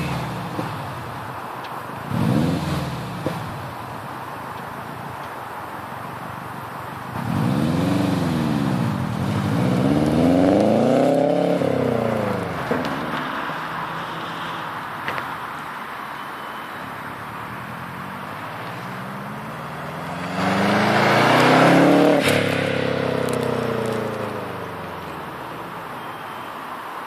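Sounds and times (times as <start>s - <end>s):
car engine idling and revving: 0.0s - 16.0s, 16.8s - 27.0s.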